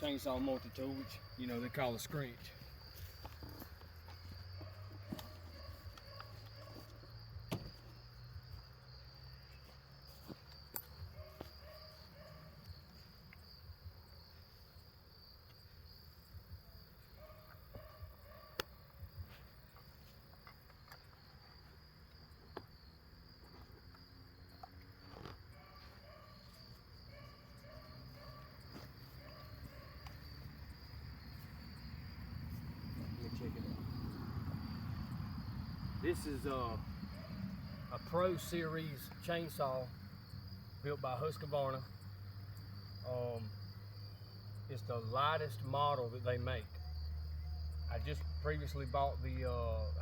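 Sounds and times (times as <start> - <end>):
insects chirring: 0.0 - 50.0.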